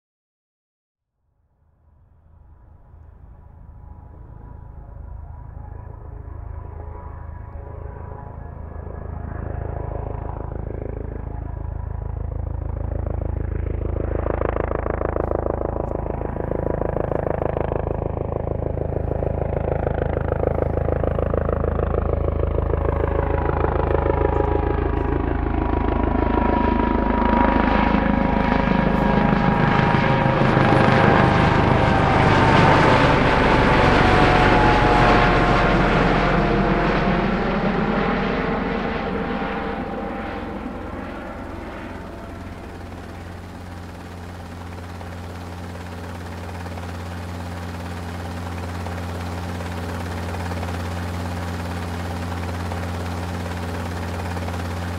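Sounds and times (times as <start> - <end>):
aircraft engine flying overhead: 1.4 - 54.9
steady whine: 2.0 - 54.9.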